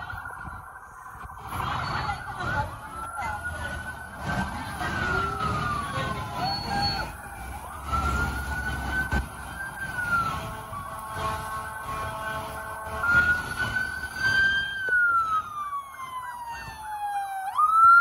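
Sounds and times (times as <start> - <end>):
sirens wailing: 0.0 - 18.0
passing vehicle engines: 0.1 - 18.0.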